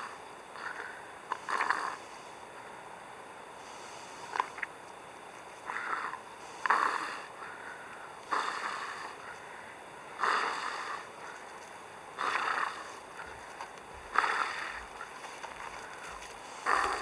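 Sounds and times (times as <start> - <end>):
wild boar snorting: 0.0 - 2.3, 5.6 - 17.0.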